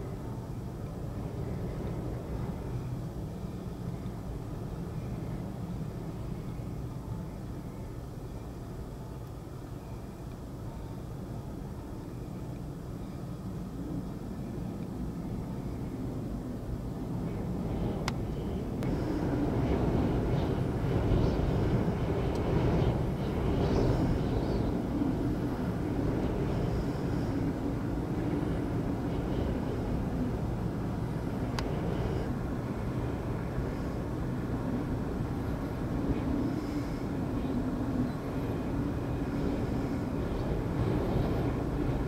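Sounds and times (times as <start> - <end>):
storm wind buffeting microphone: 0.0 - 7.2, 14.0 - 42.0.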